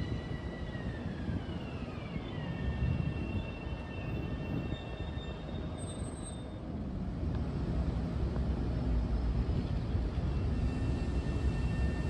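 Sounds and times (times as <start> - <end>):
commuter train rumble: 0.0 - 12.0.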